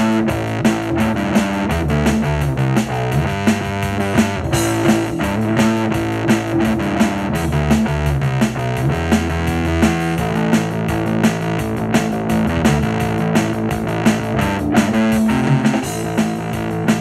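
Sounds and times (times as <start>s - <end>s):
steady beat: 0.0s - 17.0s
synth bass line: 0.0s - 17.0s.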